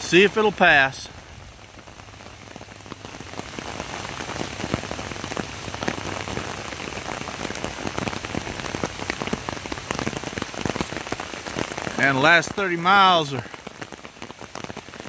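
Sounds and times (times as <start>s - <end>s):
rain drops ticking on surface: 0.0s - 15.0s.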